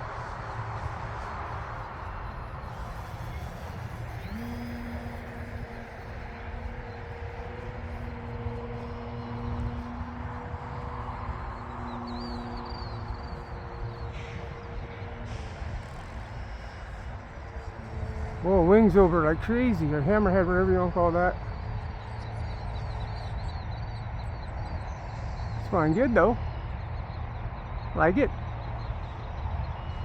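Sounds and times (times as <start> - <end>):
model plane propeller humming: 0.0 - 30.0
wind rumbling on microphone: 0.0 - 30.0.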